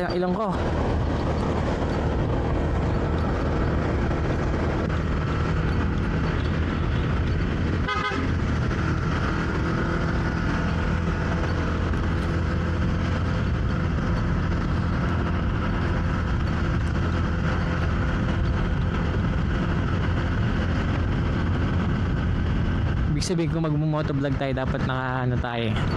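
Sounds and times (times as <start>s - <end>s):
motorcycle engine running: 0.0s - 25.9s
road and wind noise: 0.0s - 25.9s.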